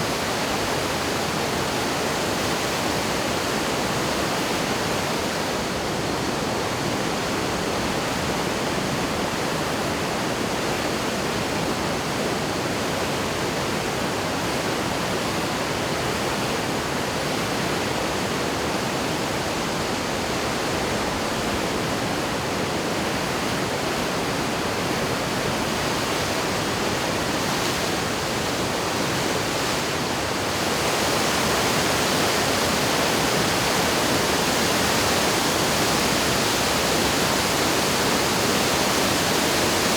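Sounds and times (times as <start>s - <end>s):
river rushing in flood: 0.0s - 39.9s.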